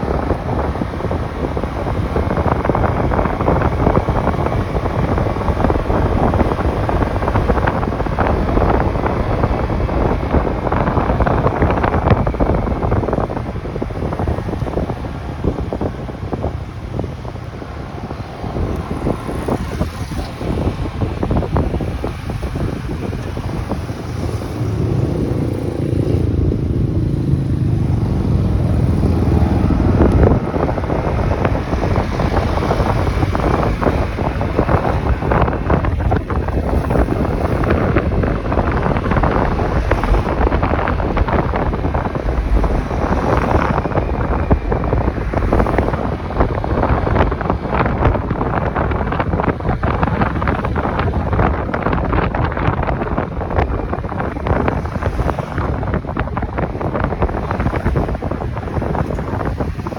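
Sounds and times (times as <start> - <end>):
motorcycle engine roar: 0.0 - 59.9
road noise: 0.0 - 59.9
wind buffeting microphone: 0.0 - 59.9.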